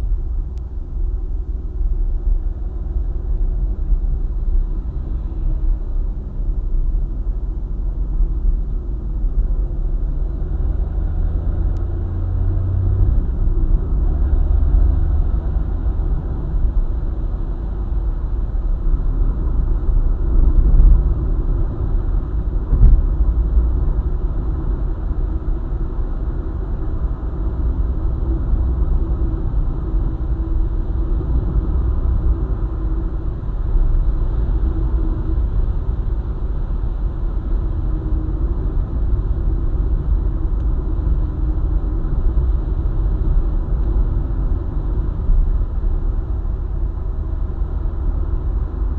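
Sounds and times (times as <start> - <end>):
car driving on highway: 0.0 - 48.9.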